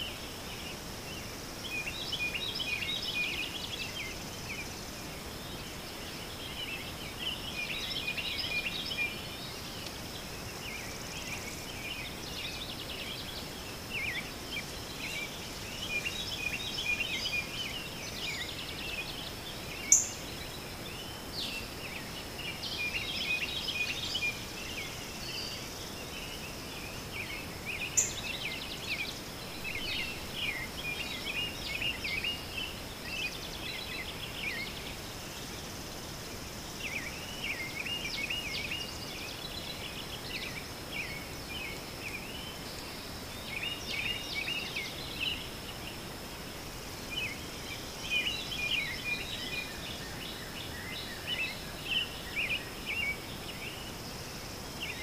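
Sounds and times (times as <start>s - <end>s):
birds chirping: 0.0s - 55.0s
faint high-pitched whine: 0.0s - 55.0s.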